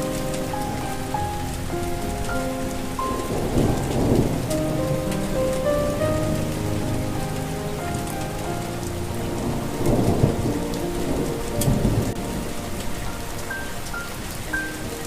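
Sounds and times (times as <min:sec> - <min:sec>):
rumble of thunder: 0:00.0 - 0:14.5
soft melody of held notes: 0:00.0 - 0:15.0
steady rain falling: 0:00.0 - 0:15.0.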